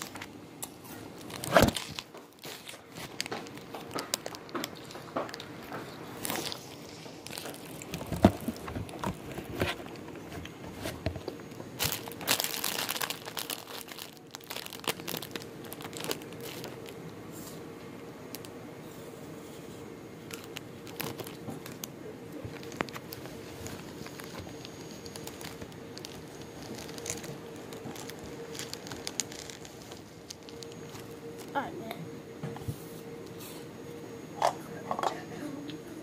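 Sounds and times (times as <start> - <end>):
plastic bags crinkling: 0.0 - 17.5, 20.1 - 31.7.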